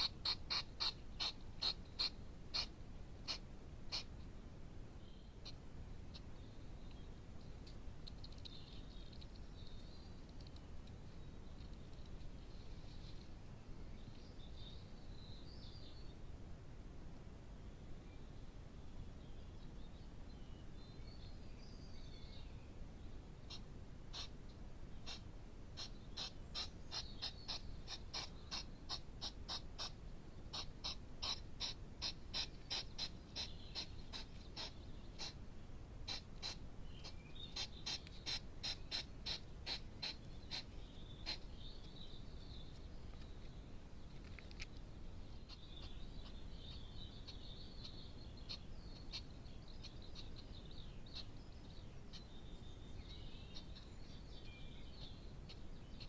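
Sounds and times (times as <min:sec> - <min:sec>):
faint bird twittering warble: 0:05.0 - 0:16.2, 0:18.0 - 0:56.0.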